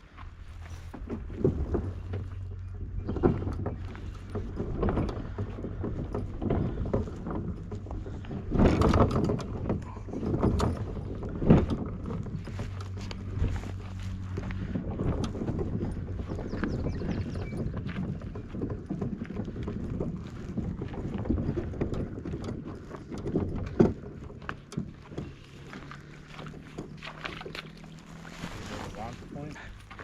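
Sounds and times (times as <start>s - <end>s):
steady low hum: 0.0s - 30.0s
knocks and clunks on kayak: 0.1s - 30.0s.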